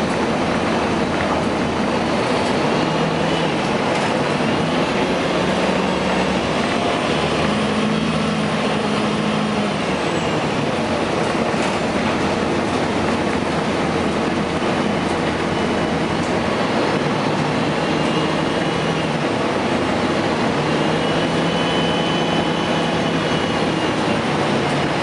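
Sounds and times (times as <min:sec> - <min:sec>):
bus diesel engine hum: 0:00.0 - 0:25.0
road noise: 0:00.0 - 0:25.0.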